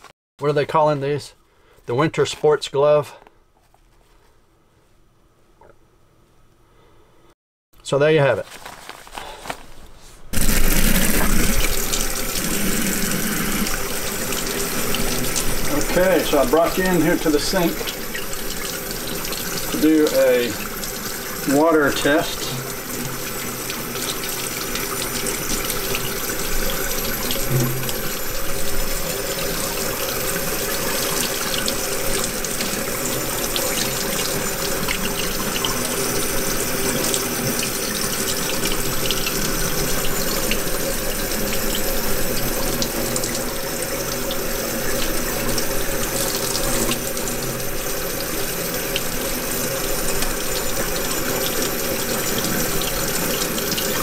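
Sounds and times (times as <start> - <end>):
tap water running into sink: 10.4 - 54.0.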